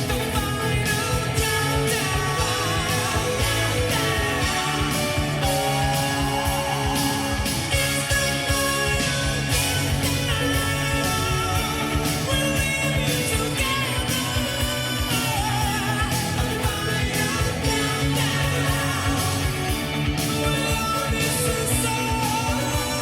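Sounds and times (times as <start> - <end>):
rock song on car speakers: 0.0 - 23.0.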